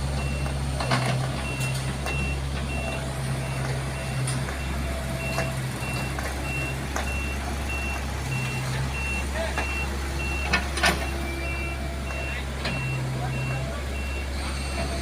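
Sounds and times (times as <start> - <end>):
diesel engine running: 0.0 - 15.0
reversing alarm beeping: 0.1 - 15.0.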